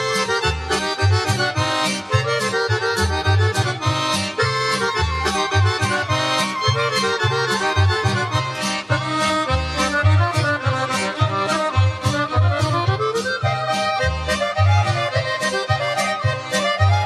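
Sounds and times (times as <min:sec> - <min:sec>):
folk dance music with accordion: 0:00.0 - 0:17.0.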